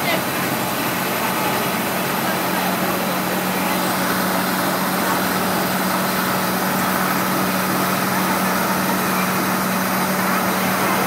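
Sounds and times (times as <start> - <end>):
diesel bus engine drone: 0.0 - 11.0.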